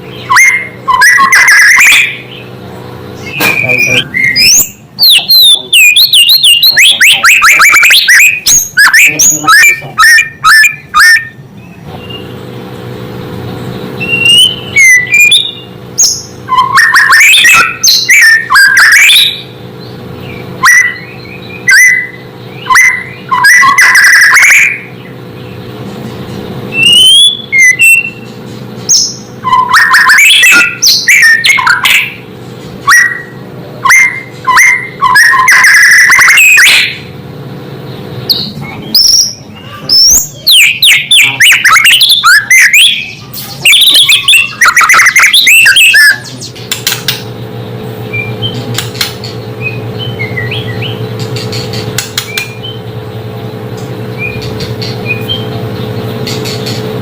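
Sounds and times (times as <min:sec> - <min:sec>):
bird singing: 0:00.0 - 0:37.2, 0:37.8 - 0:57.0.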